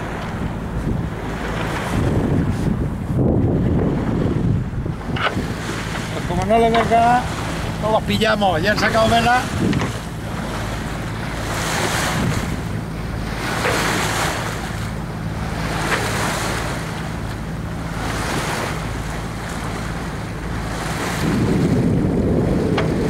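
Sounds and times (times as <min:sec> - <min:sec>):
motorboat engine humming: 0:00.0 - 0:23.0
water splashing against hull: 0:00.0 - 0:23.0
wind buffeting microphone: 0:00.0 - 0:23.0.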